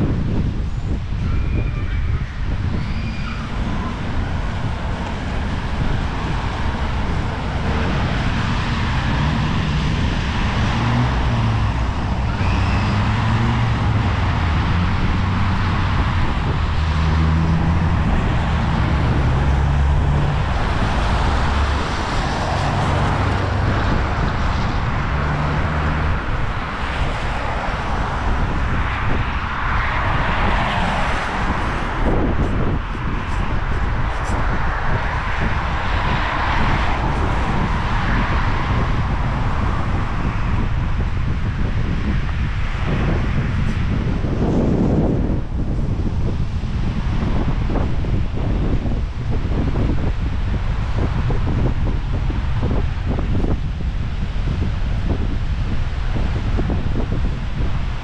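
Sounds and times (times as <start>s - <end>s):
cars passing: 0.0s - 58.0s
wind buffeting microphone: 0.0s - 58.0s.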